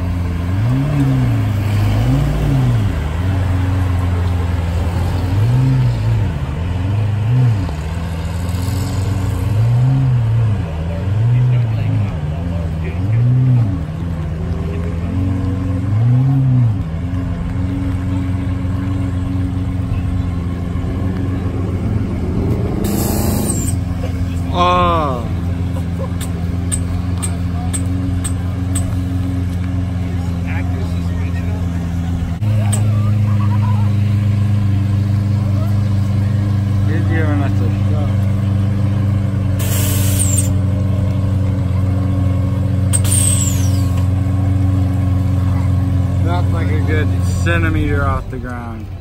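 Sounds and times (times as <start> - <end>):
car engine droning: 0.0 - 49.0.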